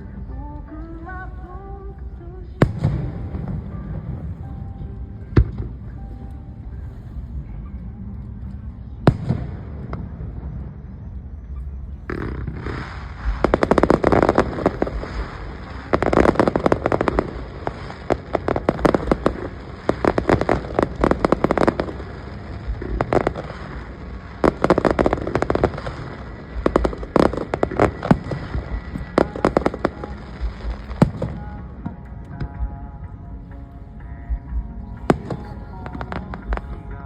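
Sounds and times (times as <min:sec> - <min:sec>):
fireworks crackling pops: 0:00.0 - 0:04.8, 0:08.3 - 0:32.7, 0:35.0 - 0:37.0
low rumble: 0:00.0 - 0:37.0.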